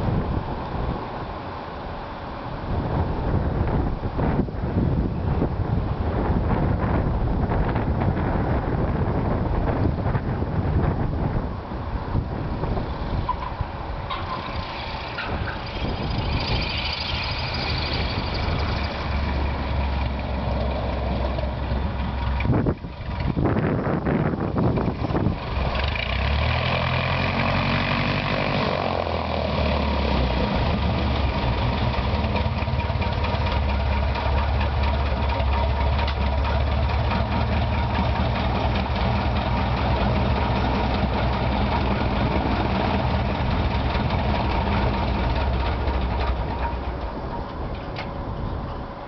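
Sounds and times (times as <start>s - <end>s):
light aircraft engine running: 0.0s - 49.0s.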